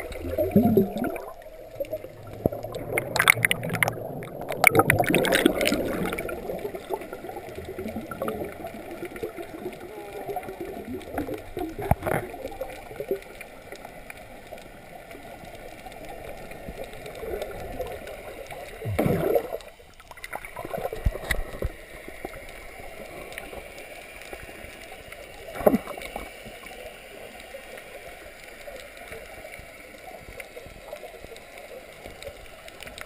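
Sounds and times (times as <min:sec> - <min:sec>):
muffled underwater water noise: 0:00.0 - 0:33.0.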